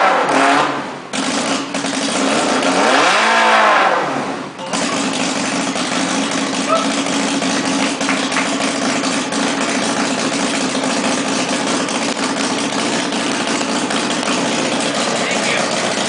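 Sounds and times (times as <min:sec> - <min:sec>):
race car engine idling: 0:01.0 - 0:02.8, 0:04.4 - 0:16.0.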